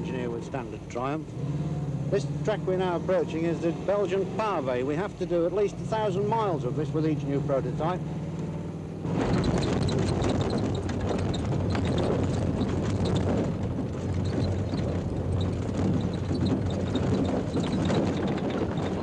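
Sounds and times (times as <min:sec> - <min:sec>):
car drone: 0:00.0 - 0:19.0.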